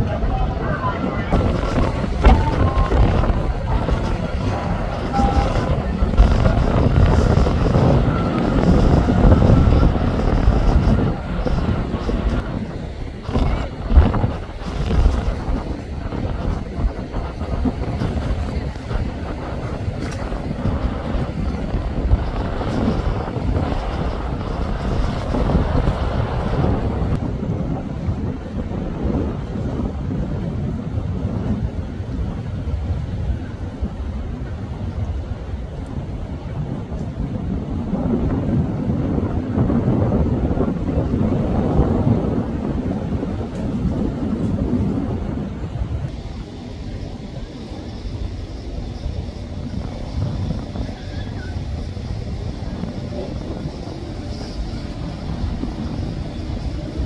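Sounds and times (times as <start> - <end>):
boat wash: 0.0 - 57.0
motorboat engines rumbling: 0.0 - 57.0
wind on microphone: 0.0 - 57.0.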